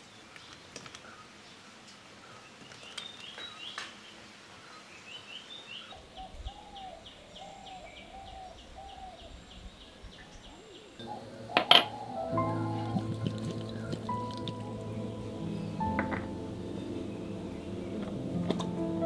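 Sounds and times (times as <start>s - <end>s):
background hiss: 0.0s - 19.0s
high falling bird chirps: 2.5s - 19.0s.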